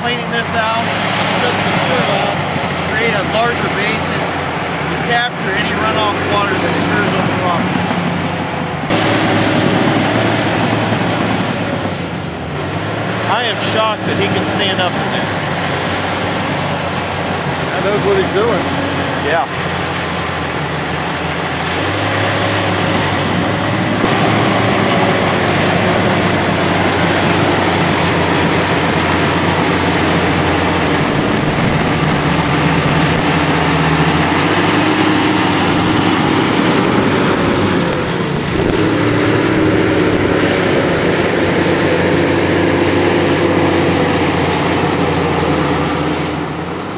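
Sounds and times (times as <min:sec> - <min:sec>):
heavy machine engine running: 0:00.0 - 0:46.9.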